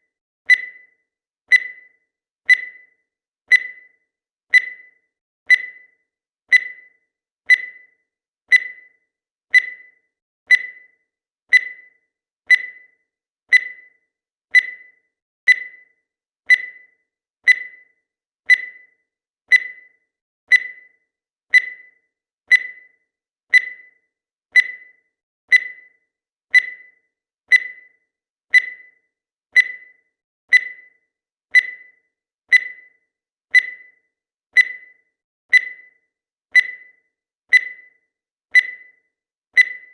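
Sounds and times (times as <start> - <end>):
high electronic timer ticks: 0.0 - 39.9.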